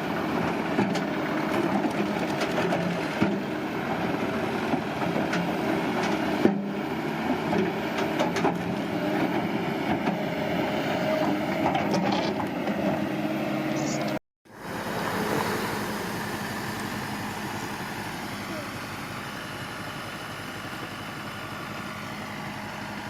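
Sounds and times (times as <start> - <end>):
heavy machine engine running: 0.0 - 23.0.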